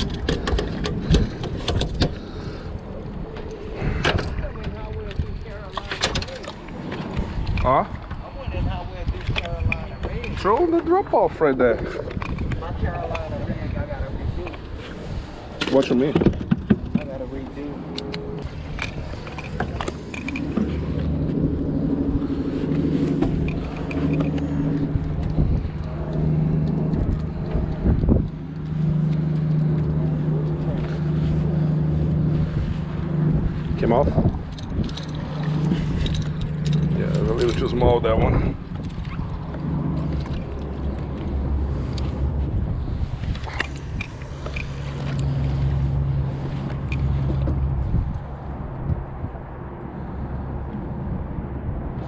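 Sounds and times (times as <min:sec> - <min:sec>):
boat motor humming: 0:00.0 - 0:51.8
wind on microphone: 0:00.0 - 0:52.0.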